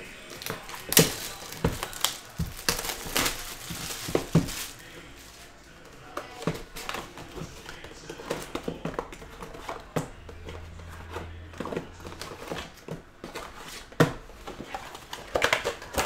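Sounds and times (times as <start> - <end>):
boxes tapping and scraping: 0.0 - 16.0.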